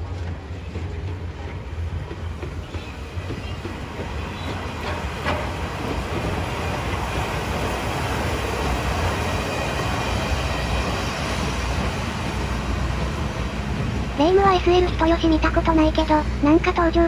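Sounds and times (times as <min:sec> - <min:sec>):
diesel train rumbling past: 0:00.0 - 0:17.0.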